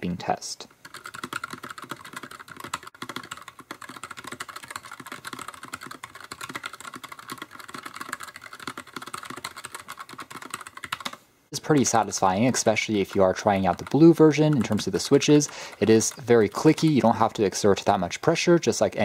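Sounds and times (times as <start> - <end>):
fast keyboard typing: 0.7 - 18.0.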